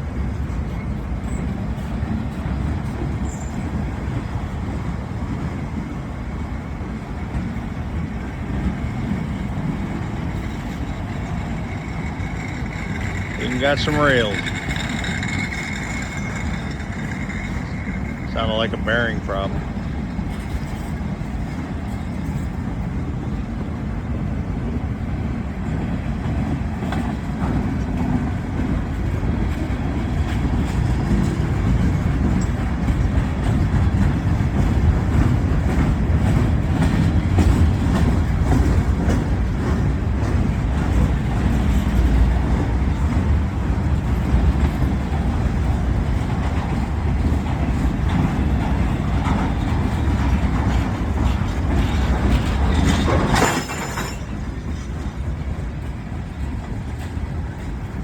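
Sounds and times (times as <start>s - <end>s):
freight cars rumbling: 0.0s - 58.0s
train wheels clicking over rail joints: 0.0s - 58.0s.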